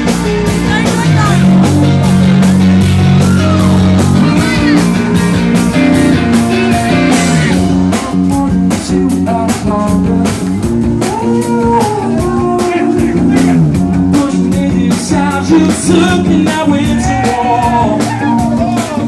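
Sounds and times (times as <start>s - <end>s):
bass guitar: 0.0s - 19.0s
drum kit beat: 0.0s - 19.0s
electric guitars bending notes: 0.0s - 19.0s.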